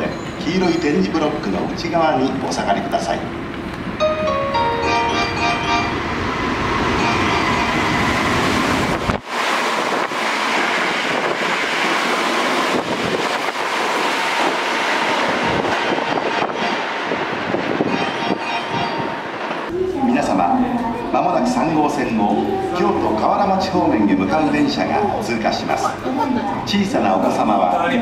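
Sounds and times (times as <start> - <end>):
train wheel-on-rail rumble: 0.0 - 28.0.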